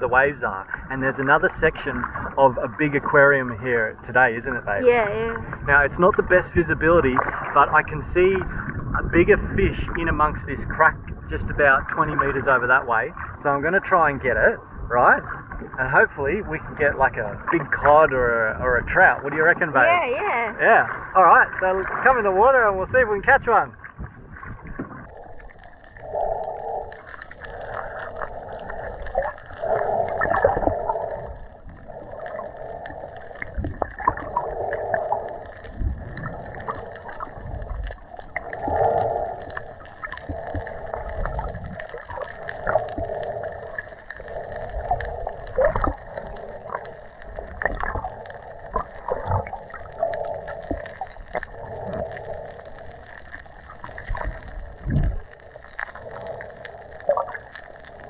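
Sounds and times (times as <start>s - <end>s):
muffled underwater rush: 0.0s - 58.0s.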